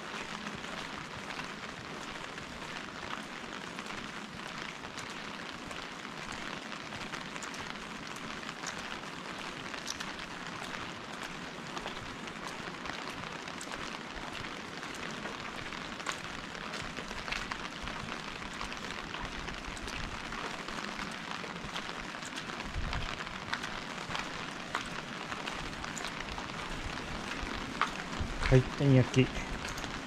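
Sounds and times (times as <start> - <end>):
raindrops tapping nearby: 0.0 - 30.0
steady rain hiss: 0.0 - 30.0.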